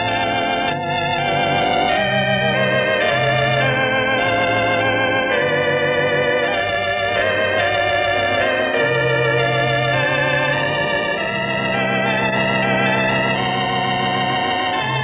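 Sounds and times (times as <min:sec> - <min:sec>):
electric organ playing slow tune: 0:00.0 - 0:15.0.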